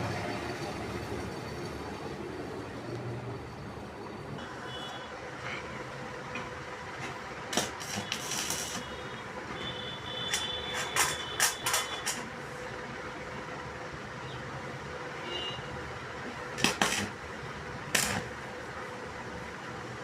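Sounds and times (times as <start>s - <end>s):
workshop background noise: 0.0s - 20.0s.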